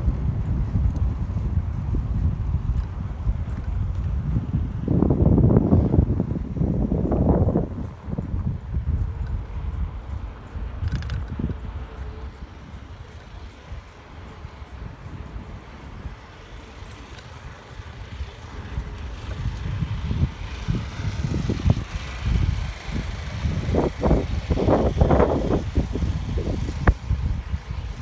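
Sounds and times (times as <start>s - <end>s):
moving bicycle rumble: 0.0s - 28.0s
wind rushing over microphone: 0.0s - 28.0s.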